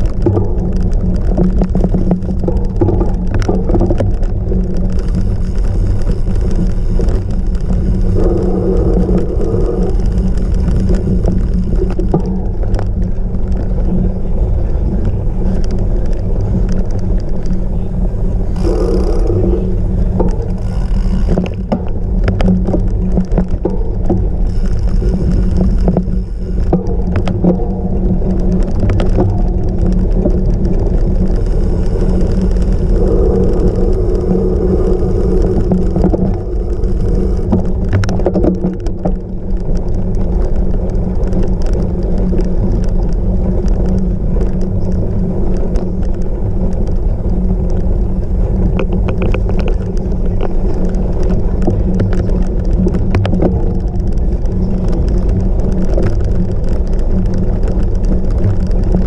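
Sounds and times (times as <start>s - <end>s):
bike rattles and knocks: 0.0s - 59.0s
bike rumbling over rough ground: 0.0s - 59.0s.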